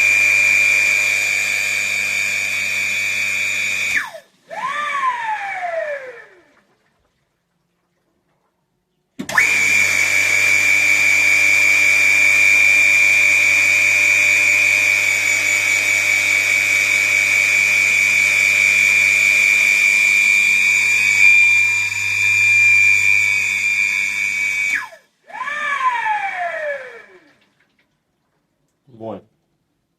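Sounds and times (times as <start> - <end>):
pool pump motor whining: 0.0 - 6.7, 9.2 - 27.4.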